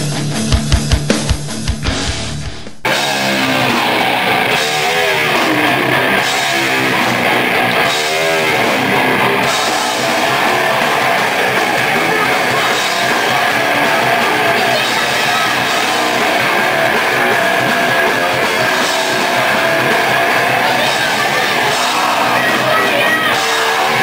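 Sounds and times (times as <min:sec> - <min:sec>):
distorted electric guitar: 0:00.0 - 0:24.0
pounding drums: 0:00.0 - 0:24.0
singer yelling into microphone: 0:02.9 - 0:24.0.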